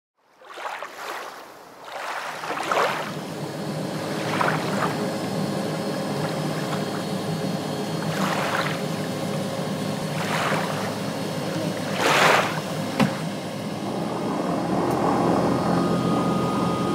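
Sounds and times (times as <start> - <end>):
propeller engine droning: 2.0 - 16.9.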